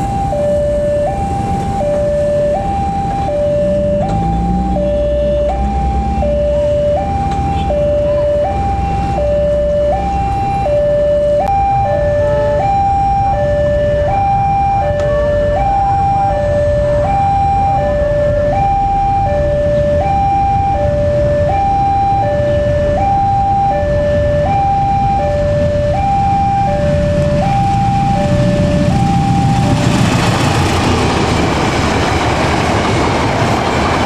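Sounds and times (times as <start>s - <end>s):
level crossing two-tone alarm: 0.0s - 29.7s.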